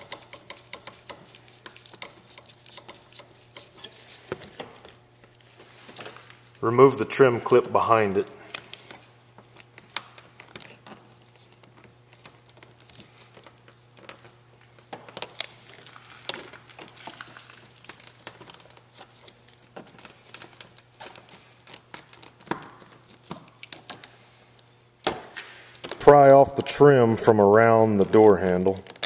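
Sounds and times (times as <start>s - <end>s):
gloved hands rustling on plastic: 0.0s - 24.6s.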